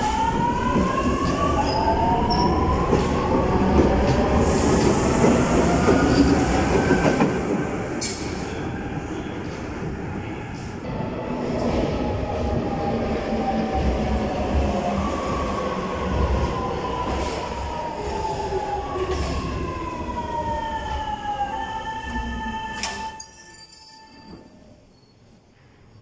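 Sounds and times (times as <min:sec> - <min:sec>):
train rumbling and rattling: 0:00.0 - 0:23.2.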